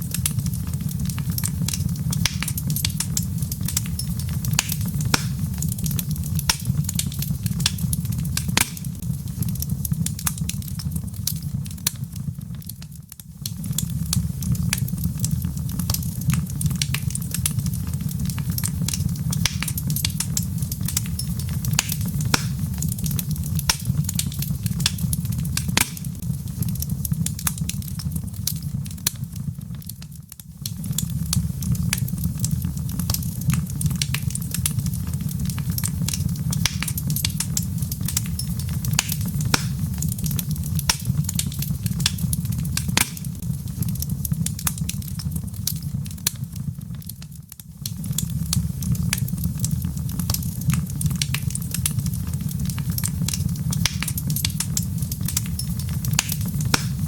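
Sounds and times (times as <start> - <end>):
log fire crackling and popping: 0.0 - 57.0.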